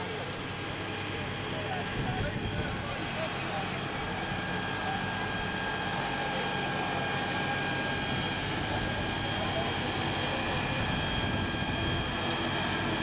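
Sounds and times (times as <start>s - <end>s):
fire engine pump drone: 0.0s - 13.0s
steady high whine: 0.0s - 13.0s.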